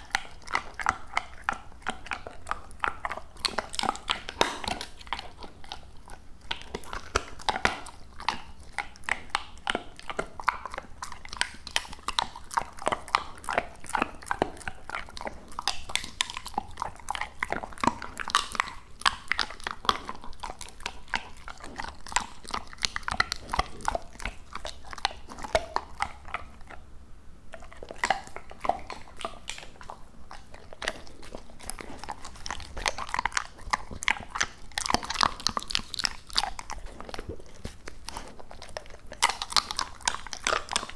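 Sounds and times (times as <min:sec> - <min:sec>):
dog chewing with wet crunching: 0:00.0 - 0:40.9.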